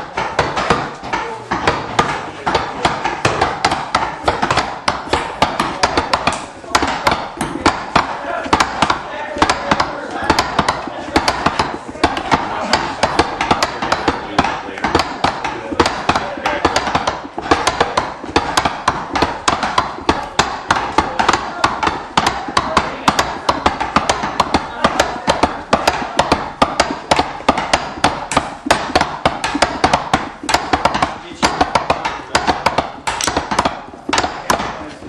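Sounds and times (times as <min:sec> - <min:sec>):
background noise: 0:00.0 - 0:35.0
rapid knocking and tapping: 0:00.0 - 0:35.0.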